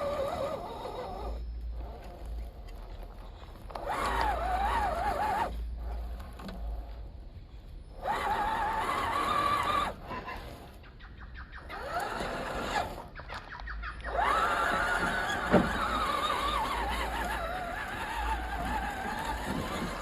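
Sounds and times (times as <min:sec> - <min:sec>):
rc car electric motor whining: 0:00.0 - 0:07.0, 0:07.9 - 0:10.8, 0:11.6 - 0:13.2, 0:14.0 - 0:20.0.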